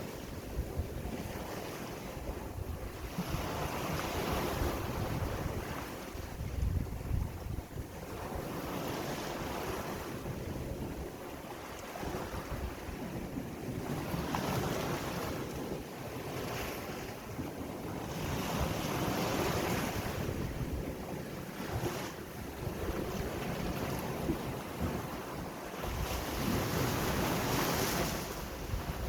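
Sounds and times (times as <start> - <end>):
sea waves breaking: 0.0 - 29.0
wind buffeting microphone: 0.0 - 29.0.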